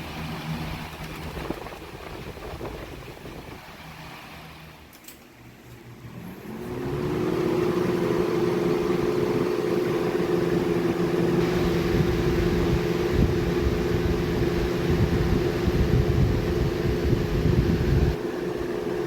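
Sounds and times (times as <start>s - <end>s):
electric fan motor hum: 0.0s - 19.0s
rush of air from fan: 0.0s - 19.0s.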